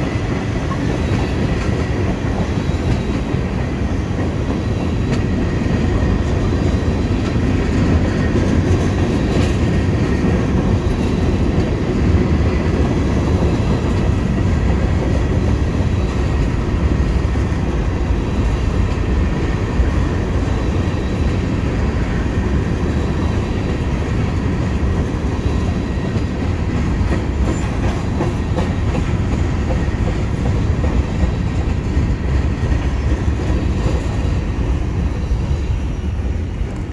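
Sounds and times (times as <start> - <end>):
train wheels rumbling on rails: 0.0 - 36.9
wheels clicking over rail joints: 0.3 - 35.5.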